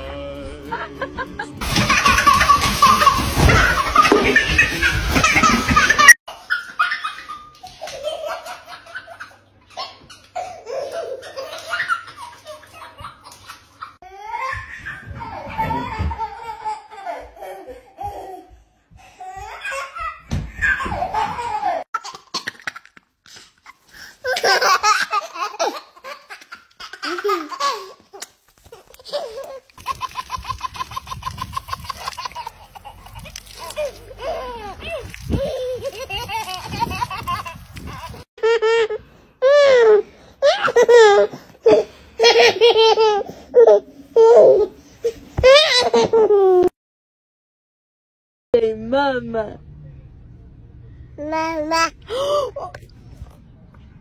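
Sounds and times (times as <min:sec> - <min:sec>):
baby laughing: 0:01.6 - 0:18.5, 0:19.2 - 0:46.7, 0:51.2 - 0:52.8.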